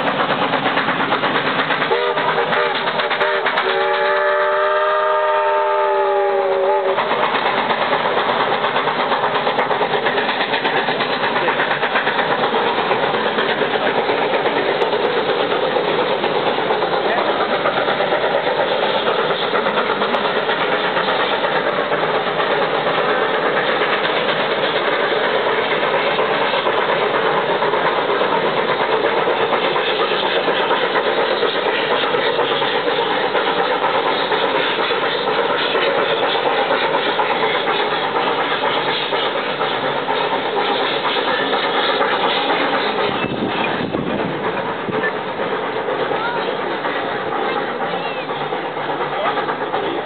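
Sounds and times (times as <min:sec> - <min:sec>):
steam locomotive exhaust chuffing: 0:00.0 - 0:50.0.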